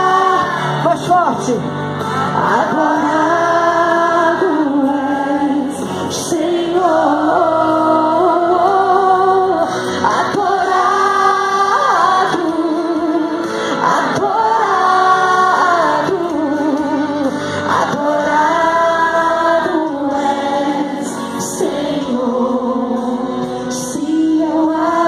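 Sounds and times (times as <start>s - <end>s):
woman singing worship song: 0.0s - 0.8s, 2.2s - 25.0s.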